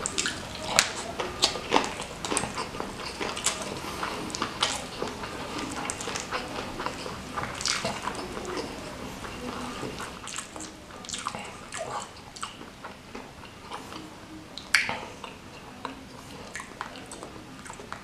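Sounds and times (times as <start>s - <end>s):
chewing and wet mouth sounds: 0.0s - 18.0s
food crunching: 0.0s - 18.0s.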